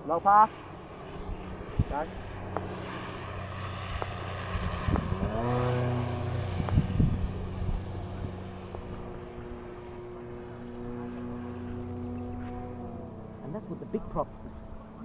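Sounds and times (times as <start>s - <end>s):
electric model plane motor whining: 1.1s - 15.0s.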